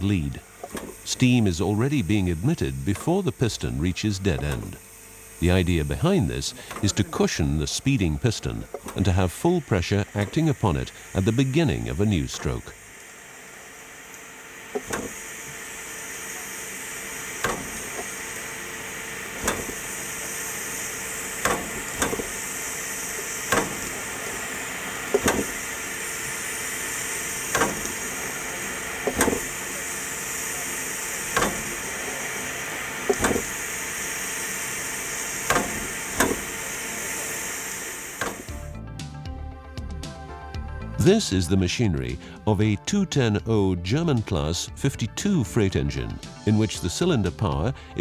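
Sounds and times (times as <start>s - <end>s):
steam locomotive hissing: 0.0s - 38.7s.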